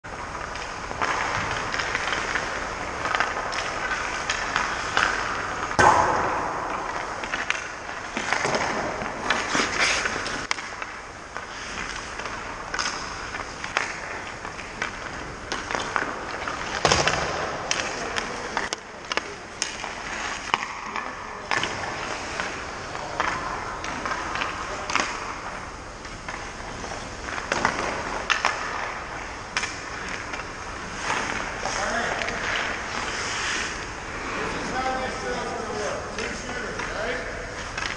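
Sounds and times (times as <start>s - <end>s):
pucks hitting pads or boards: 0.2s - 37.9s
skate blades scraping ice: 0.3s - 5.8s, 6.7s - 37.9s
sticks cracking on pucks: 0.3s - 35.2s, 36.1s - 37.9s.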